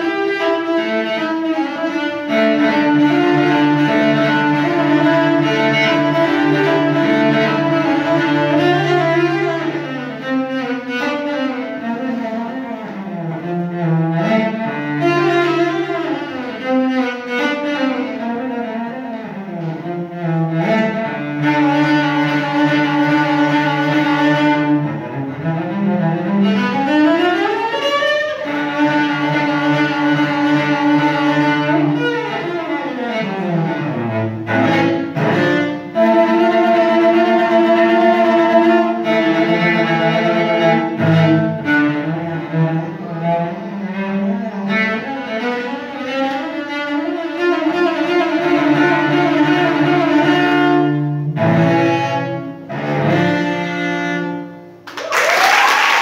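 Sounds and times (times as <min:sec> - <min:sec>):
solo cello melody: 0:00.0 - 0:54.9.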